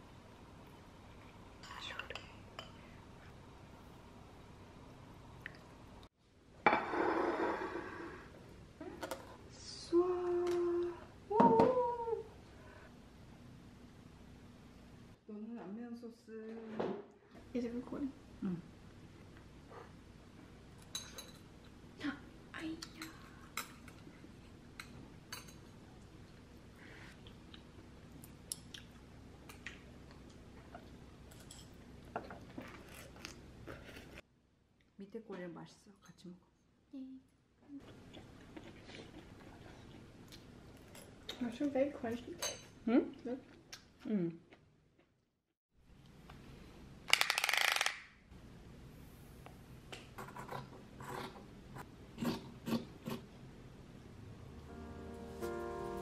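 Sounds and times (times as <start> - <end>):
low room hum: 0.0 - 45.2, 48.1 - 56.0.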